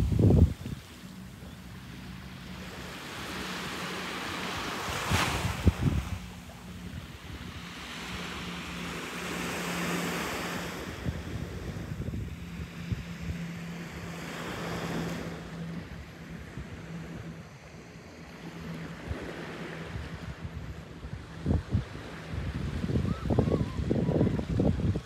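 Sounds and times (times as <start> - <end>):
waves lapping on sandy beach: 0.0 - 25.0
wind buffeting microphone: 0.0 - 25.0.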